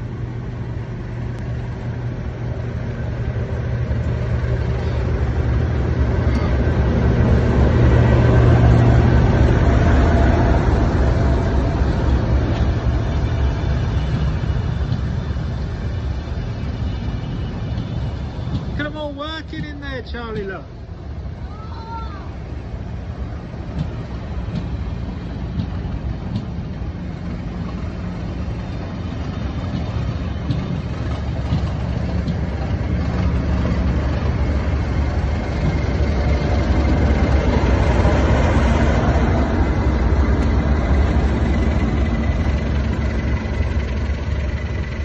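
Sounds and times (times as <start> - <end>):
diesel locomotive engine: 0.0 - 45.0
train coaches rolling past: 0.0 - 45.0.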